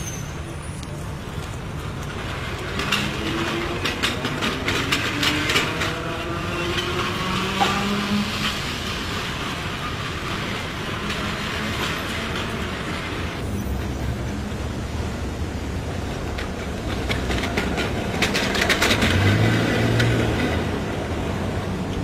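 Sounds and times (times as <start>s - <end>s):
tram rumbling on rails: 0.0s - 22.0s
wheels clicking over rail joints: 0.0s - 22.0s.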